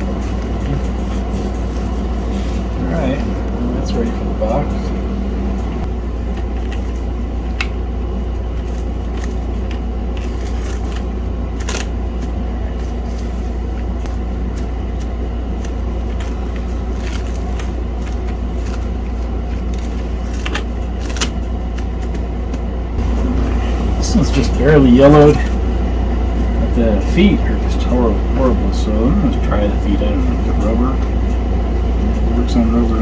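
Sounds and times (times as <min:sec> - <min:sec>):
low background rumble: 0:00.0 - 0:33.0.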